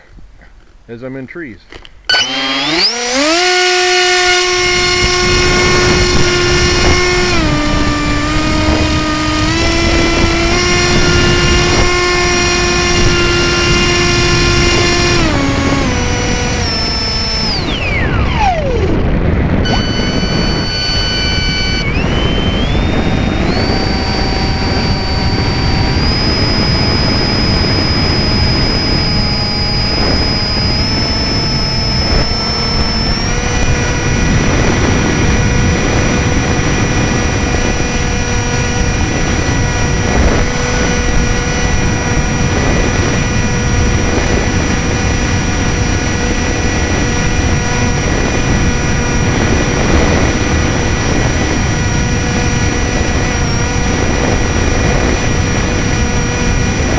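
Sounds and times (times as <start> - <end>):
electric motor and propeller whining: 1.7 - 56.9
wind rushing over microphone: 2.1 - 56.9.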